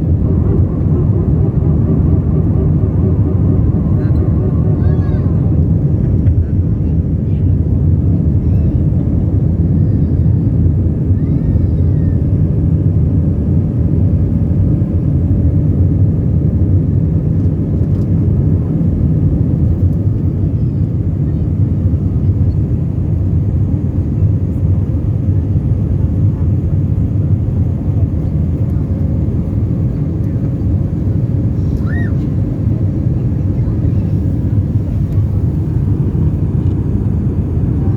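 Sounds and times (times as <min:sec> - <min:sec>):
jet engines rumbling: 0:00.0 - 0:37.9.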